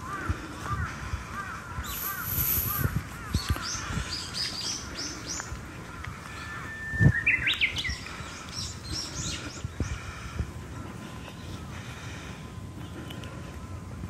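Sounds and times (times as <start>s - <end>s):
songbirds calling and singing: 0.0s - 14.0s.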